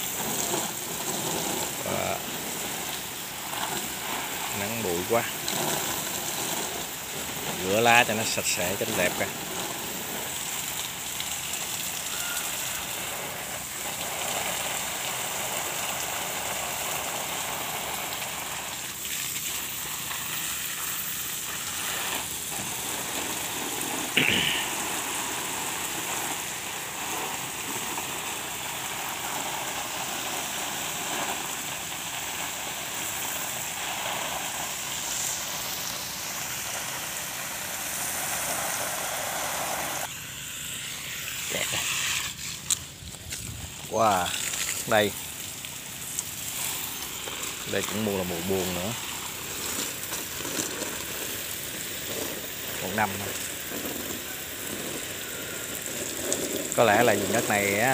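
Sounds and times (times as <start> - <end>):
water spraying from a hose: 0.0 - 57.9.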